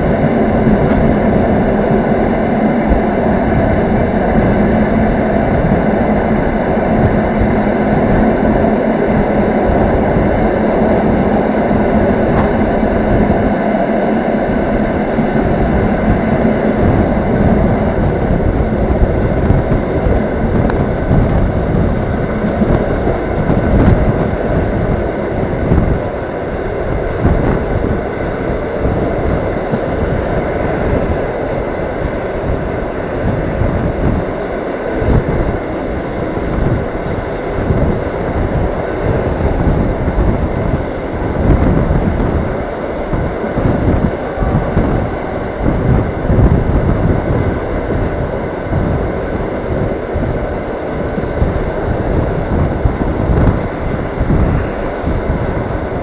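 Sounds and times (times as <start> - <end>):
train knocks: 0.0 - 56.0
train wheels rumbling on rails: 0.0 - 56.0.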